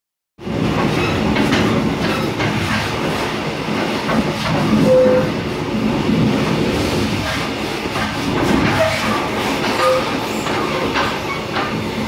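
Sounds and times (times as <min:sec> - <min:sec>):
train wheels rumbling on track: 0:00.4 - 0:12.0.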